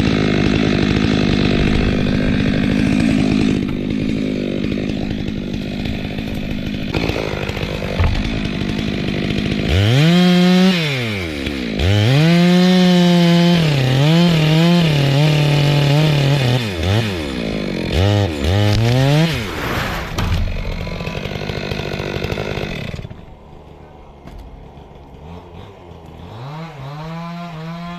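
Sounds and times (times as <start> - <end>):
chainsaw idling and revving: 0.0 - 27.9.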